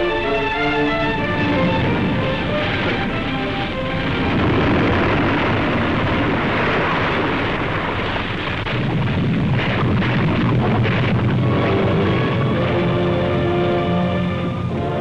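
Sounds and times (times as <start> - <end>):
volcanic eruption roar: 1.0 - 15.0
sharp volcanic blasts: 1.1 - 15.0.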